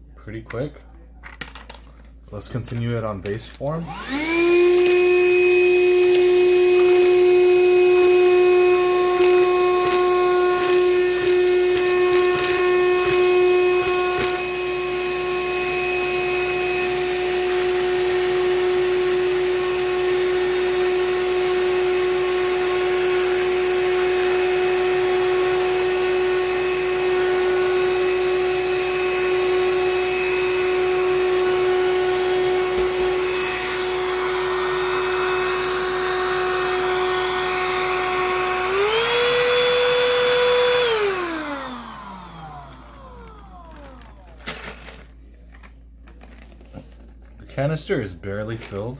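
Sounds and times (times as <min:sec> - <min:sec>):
handheld vacuum whining: 0:03.8 - 0:45.6.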